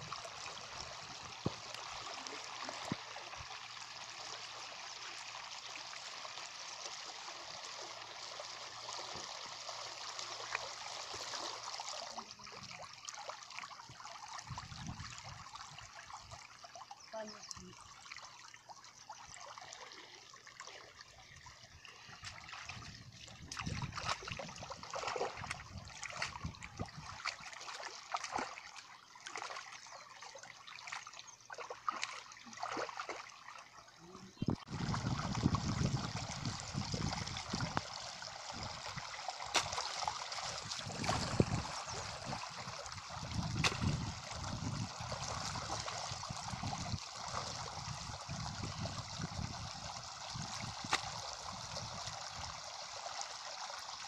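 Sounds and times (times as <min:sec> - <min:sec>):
shallow water splashing: 0:00.0 - 0:52.6.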